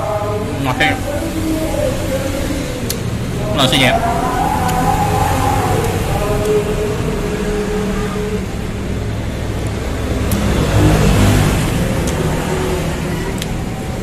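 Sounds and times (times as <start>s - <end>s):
road traffic rumble: 0.0s - 14.0s
vehicle passing: 0.0s - 14.0s.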